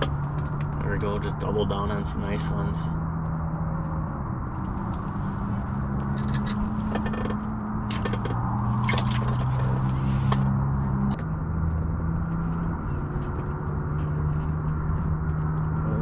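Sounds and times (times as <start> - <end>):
handling clicks and rustles: 0.0 - 16.0.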